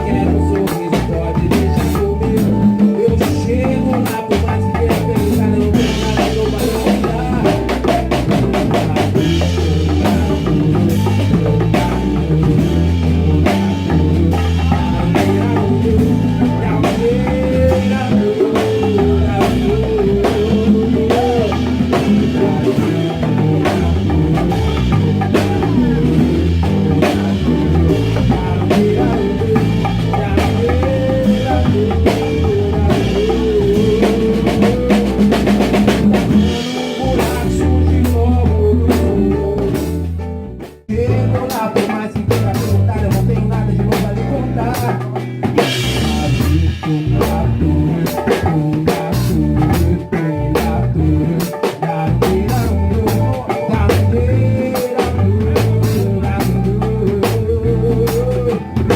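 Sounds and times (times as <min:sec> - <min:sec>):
live band playing instrumental: 0:00.0 - 0:58.9.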